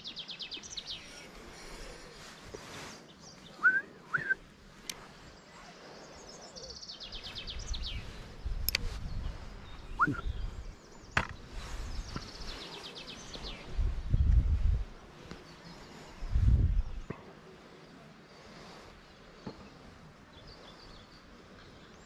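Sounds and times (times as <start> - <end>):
songbirds chirping and trilling: 0.0 - 22.0.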